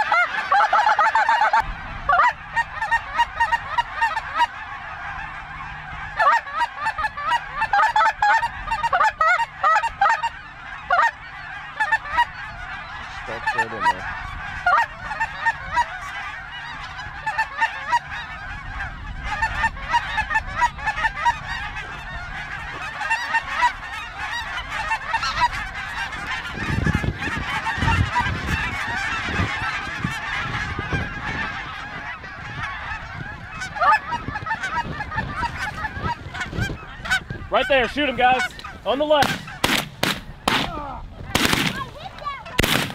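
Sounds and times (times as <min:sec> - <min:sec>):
flock of geese calling: 0:00.0 - 0:42.9.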